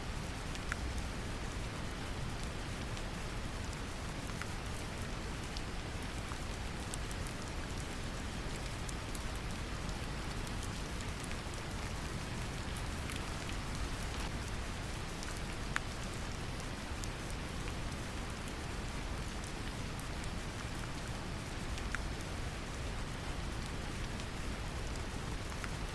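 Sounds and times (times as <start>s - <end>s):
gentle rain drops ticking: 0.0s - 25.9s.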